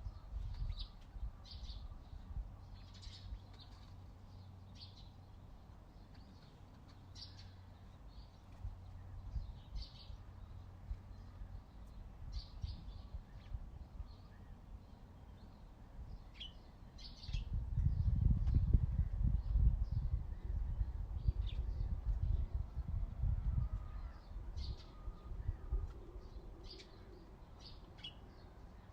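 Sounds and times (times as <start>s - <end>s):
small songbirds chirping: 0.0s - 28.9s.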